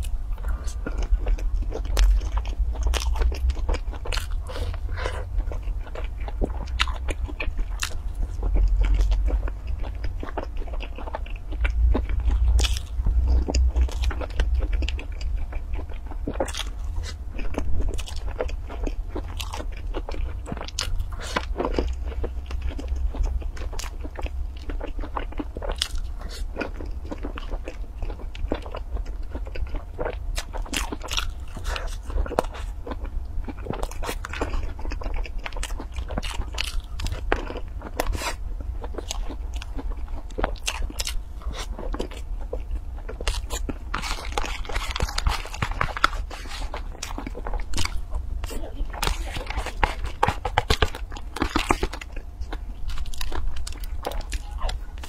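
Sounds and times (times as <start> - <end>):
chewing pastry: 0.0 - 55.0
steady low rumble: 0.0 - 55.0.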